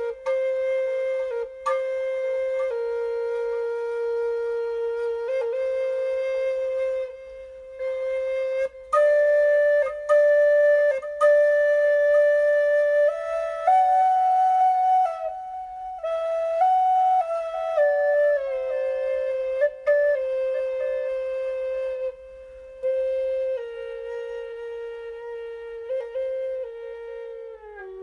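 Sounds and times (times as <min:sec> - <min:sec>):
solo flute melody: 0:00.0 - 0:28.0.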